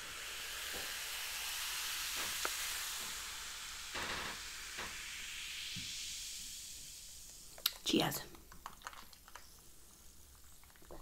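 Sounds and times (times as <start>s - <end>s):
cola fizzing in a glass: 0.1s - 11.0s.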